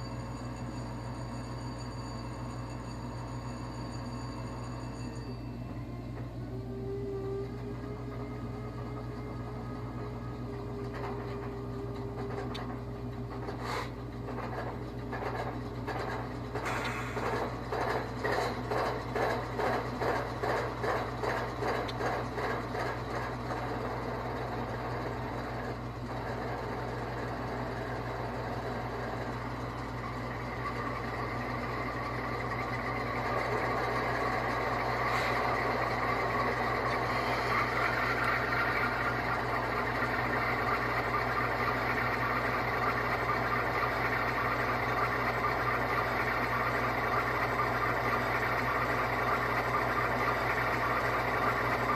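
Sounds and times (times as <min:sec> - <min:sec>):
diesel locomotive running: 0:00.0 - 0:51.9.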